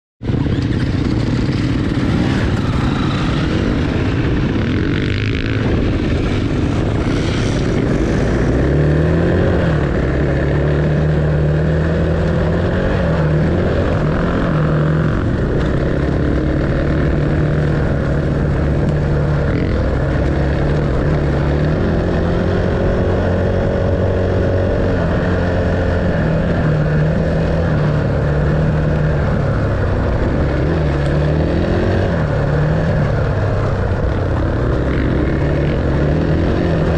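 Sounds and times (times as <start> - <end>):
dirt bike engine running: 0.2 - 36.9
rushing rough noise: 0.2 - 36.9.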